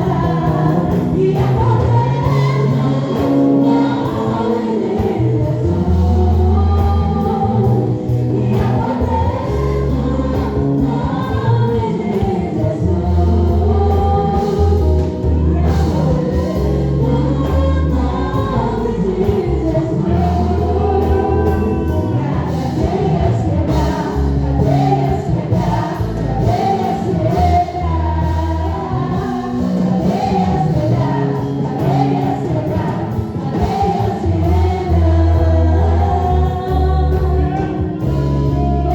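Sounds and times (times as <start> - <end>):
band accompaniment: 0.0 - 38.9
group of voices singing: 0.0 - 38.9
sustained bass notes: 0.0 - 38.9.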